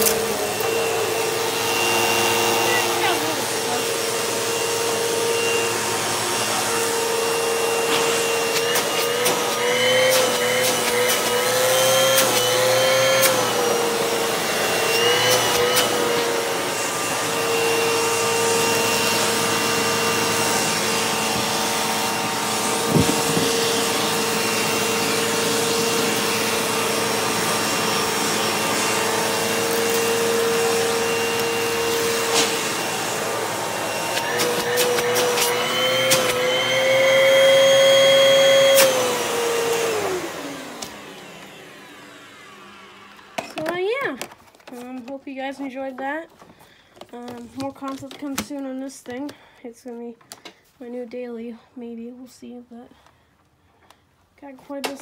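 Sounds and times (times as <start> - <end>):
upright vacuum cleaner running: 0.0 - 49.6.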